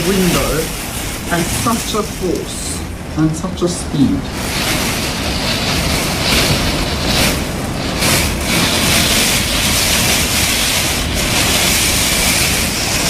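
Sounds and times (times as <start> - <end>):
wind and driving rain: 0.0 - 13.0
wind rumble on microphone: 0.0 - 13.0.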